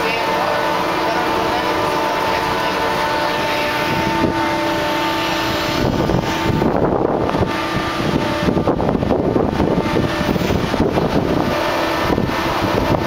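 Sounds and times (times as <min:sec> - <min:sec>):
ship machinery hum: 0:00.0 - 0:13.0
steady whine: 0:00.0 - 0:13.0
wind buffeting microphone: 0:00.0 - 0:13.0.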